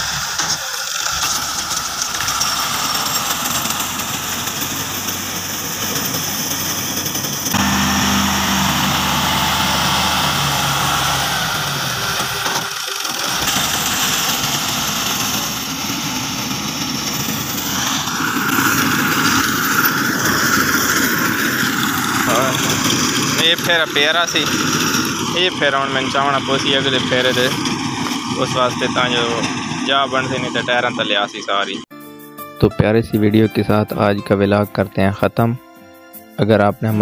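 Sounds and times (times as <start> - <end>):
diesel tractor engine running: 0.0 - 31.8.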